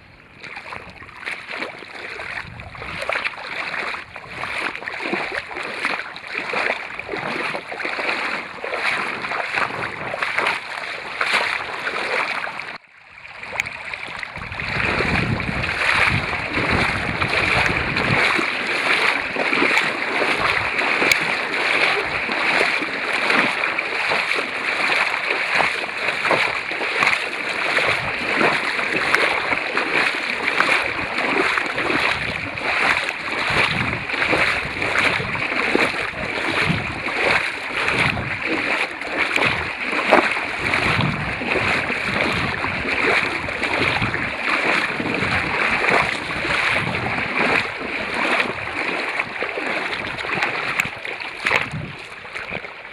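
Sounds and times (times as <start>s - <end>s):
river water rushing and splashing: 0.0s - 52.9s.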